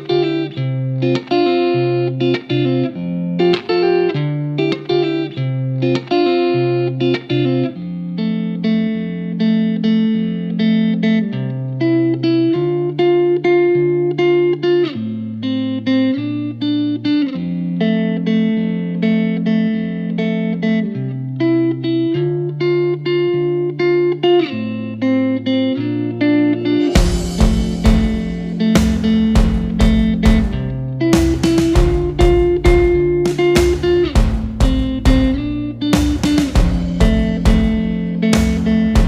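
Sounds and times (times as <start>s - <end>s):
guitar-led background music: 0.0s - 39.0s.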